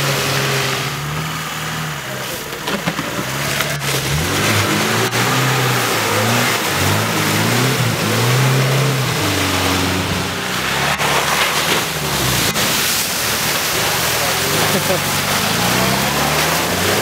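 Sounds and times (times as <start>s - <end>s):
engine revving: 0.0s - 17.0s
mud and water splashing: 0.0s - 17.0s.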